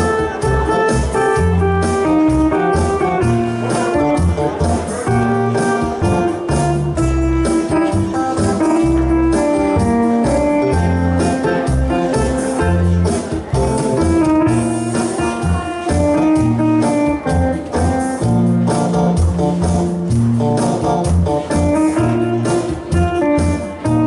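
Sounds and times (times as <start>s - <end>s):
electronic keyboard dance music: 0.0s - 24.0s.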